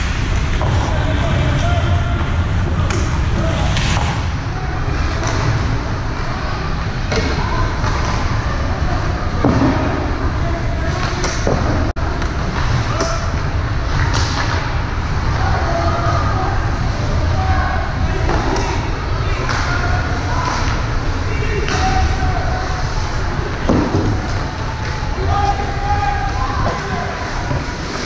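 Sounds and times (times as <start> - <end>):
indistinct voices: 0.0 - 28.0.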